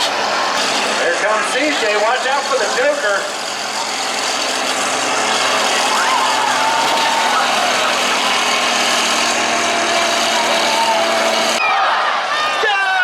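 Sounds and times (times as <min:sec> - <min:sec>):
engines running: 0:00.0 - 0:11.6.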